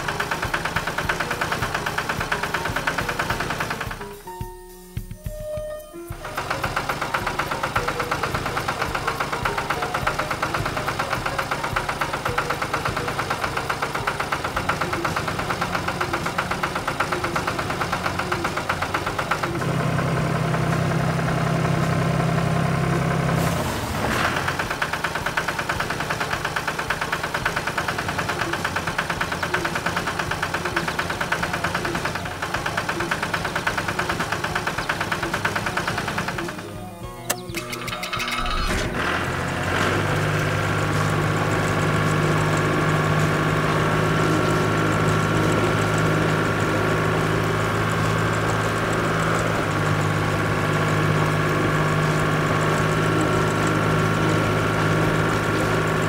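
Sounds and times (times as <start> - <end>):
cartoon engine chugging: 0.0 - 56.0.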